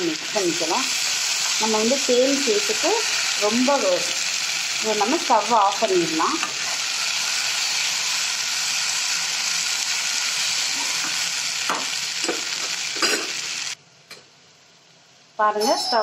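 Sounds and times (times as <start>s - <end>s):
vegetables sizzling in pan: 0.0s - 13.8s.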